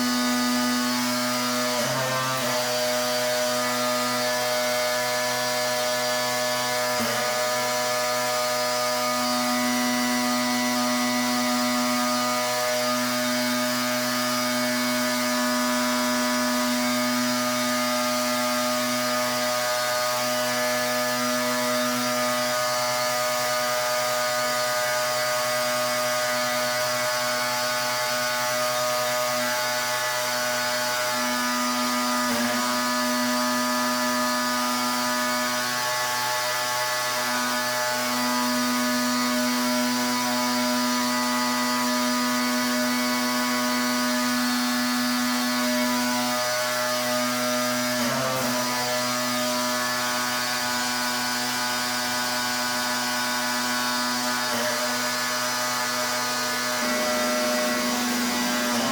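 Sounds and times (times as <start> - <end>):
pressure washer motor hum: 0.0 - 58.9.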